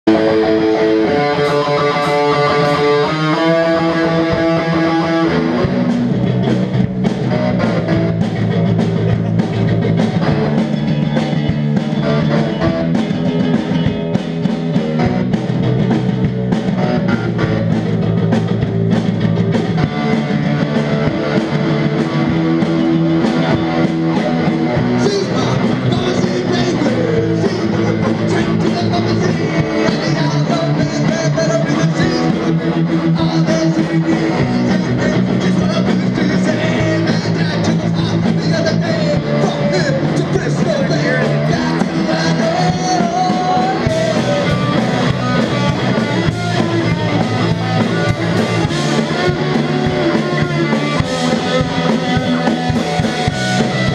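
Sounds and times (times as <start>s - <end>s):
drum kit: 0.0s - 53.9s
electric guitars: 0.0s - 53.9s.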